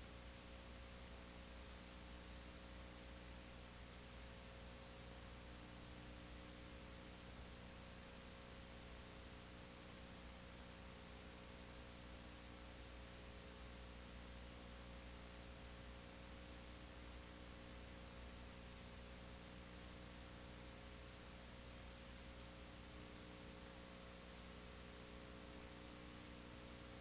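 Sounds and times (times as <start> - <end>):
faint steady hiss: 0.0 - 27.0
low mains hum: 0.0 - 27.0.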